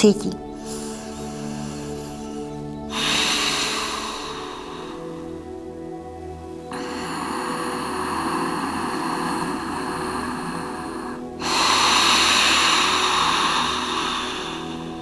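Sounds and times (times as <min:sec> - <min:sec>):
soft background music: 0:00.0 - 0:15.0
person breathing in and out: 0:00.5 - 0:15.0.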